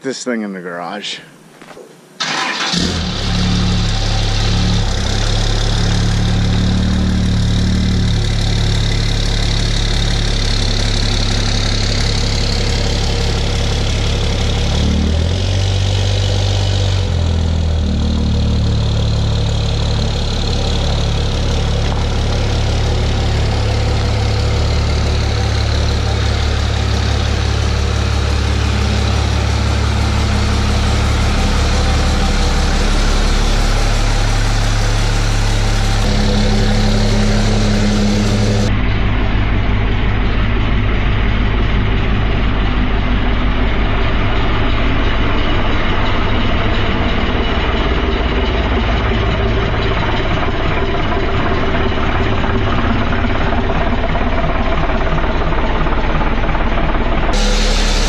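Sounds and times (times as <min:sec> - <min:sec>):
diesel truck engine running: 0:02.2 - 0:58.0.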